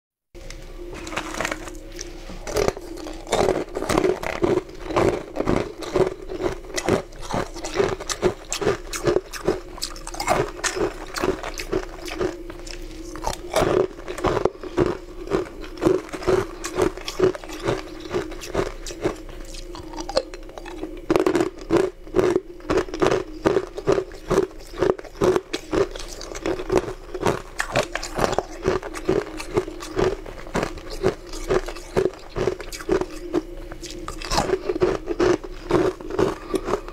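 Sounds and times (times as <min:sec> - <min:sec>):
low hum: 0:00.4 - 0:36.9
ice being chewed: 0:00.8 - 0:36.9.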